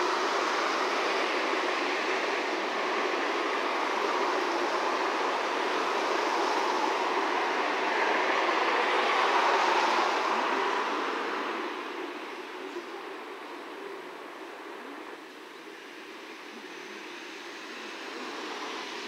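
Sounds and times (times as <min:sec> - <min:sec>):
train wheels on track: 0:00.0 - 0:19.0.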